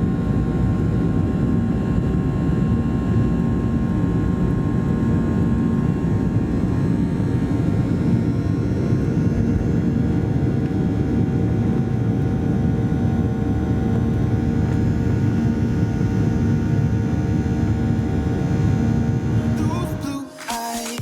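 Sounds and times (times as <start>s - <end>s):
airplane cabin engine drone: 0.0s - 20.1s.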